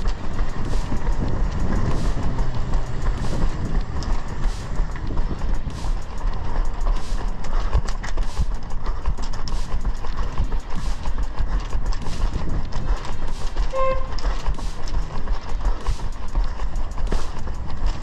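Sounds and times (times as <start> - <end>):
running footsteps on pavement: 0.0 - 18.0
wind rumble: 0.0 - 18.0.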